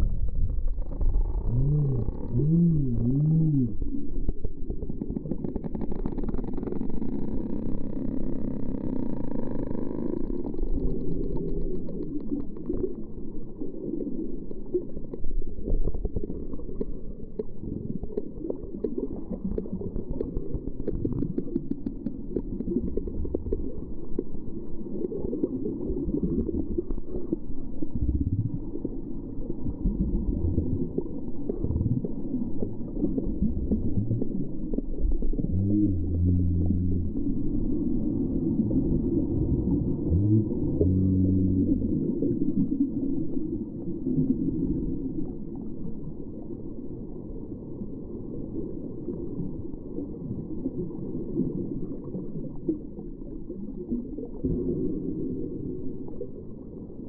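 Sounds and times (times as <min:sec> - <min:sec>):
steady low tone: 0:00.0 - 0:21.5, 0:22.1 - 0:57.0
ocean low rumble: 0:00.0 - 0:57.0.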